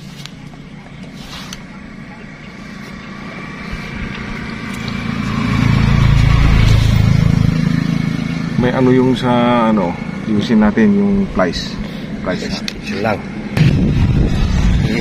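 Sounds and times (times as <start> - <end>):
vehicle engine passing: 0.0 - 15.0.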